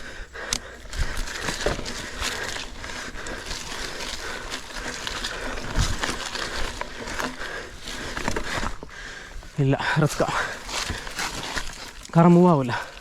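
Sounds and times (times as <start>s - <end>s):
gravel crunching underfoot and tyres: 0.0s - 13.0s.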